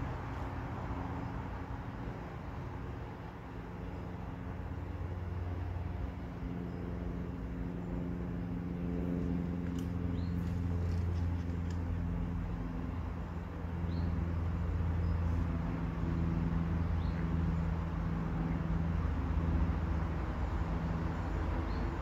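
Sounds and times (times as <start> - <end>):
low engine-like drone: 0.0 - 22.0.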